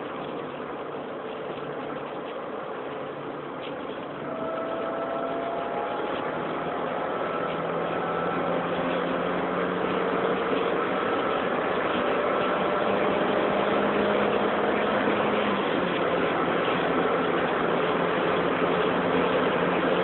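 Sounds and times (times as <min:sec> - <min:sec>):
road and wind noise: 0:00.0 - 0:20.0
car engine accelerating: 0:03.4 - 0:20.0.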